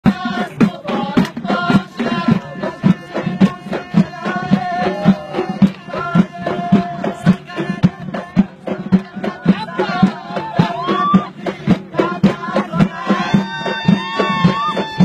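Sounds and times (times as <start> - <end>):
frame drums beating: 0.0 - 15.0.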